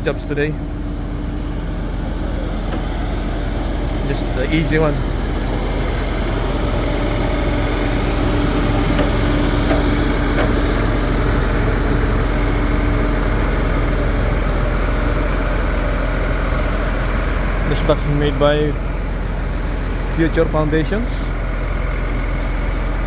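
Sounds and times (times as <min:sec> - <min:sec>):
steady hum: 0:00.0 - 0:19.2
truck engine rumbling: 0:00.0 - 0:23.0.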